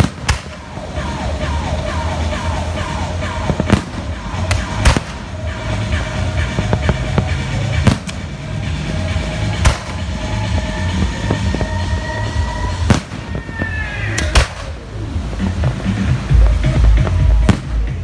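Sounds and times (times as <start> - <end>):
fireworks bangs: 0.0 - 18.0
music with pulsing bass: 0.0 - 18.0.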